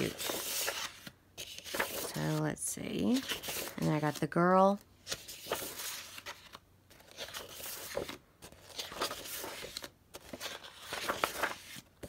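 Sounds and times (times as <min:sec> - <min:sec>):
paper sheets rustling: 0:00.0 - 0:11.9.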